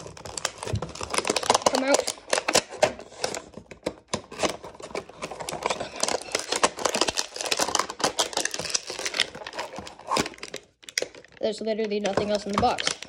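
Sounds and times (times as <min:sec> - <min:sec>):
hard plastic clicking and rattling: 0:00.0 - 0:13.0.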